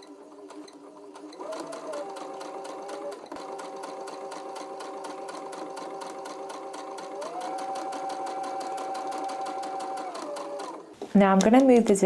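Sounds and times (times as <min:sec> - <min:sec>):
sewing machine stitching: 0:00.0 - 0:11.7.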